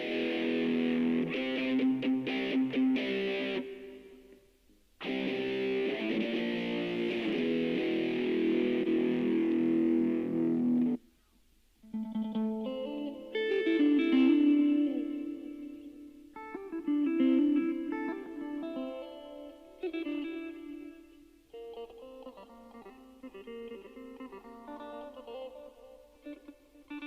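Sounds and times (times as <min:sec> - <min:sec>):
electric guitar chords: 0:00.0 - 0:11.0, 0:11.8 - 0:27.0
guitar picked notes: 0:00.0 - 0:11.1, 0:11.8 - 0:27.0.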